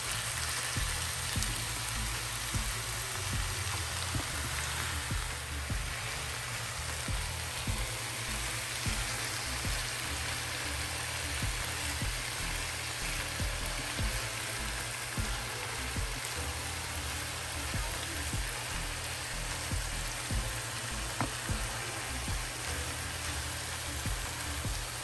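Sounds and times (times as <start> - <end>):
meat sizzling in a frying pan: 0.0 - 25.0.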